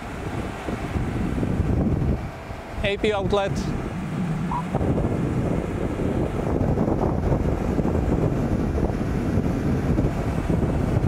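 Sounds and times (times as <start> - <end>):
aircraft ramp noise: 0.0 - 11.0
wind buffeting microphone: 0.0 - 11.0.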